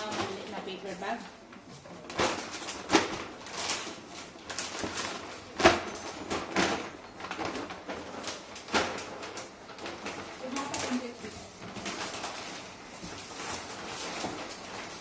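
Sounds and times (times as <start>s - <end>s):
plastic bags rustling: 0.0s - 15.0s.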